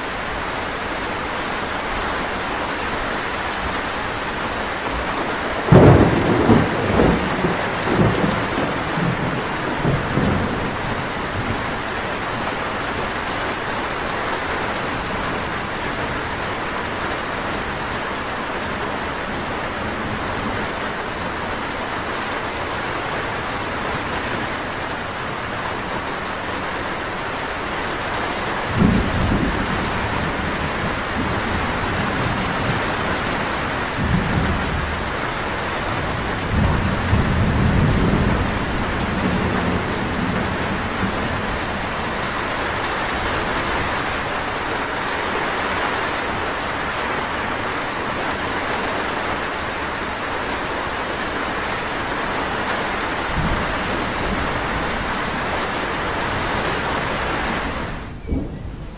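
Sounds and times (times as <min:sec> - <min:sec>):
rainfall hiss: 0:00.0 - 0:58.9.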